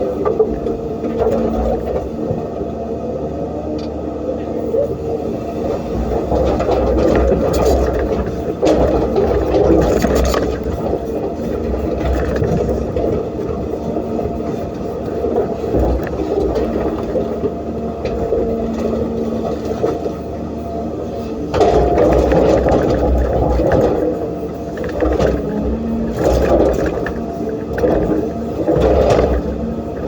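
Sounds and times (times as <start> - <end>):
excavator diesel engine running: 0.0 - 30.0
hydraulic whine: 0.0 - 30.0.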